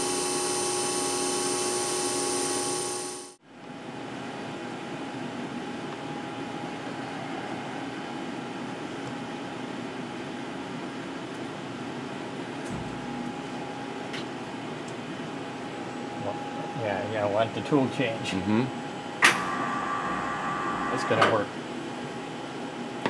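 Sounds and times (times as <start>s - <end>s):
machine mechanical hum: 0.0s - 23.0s.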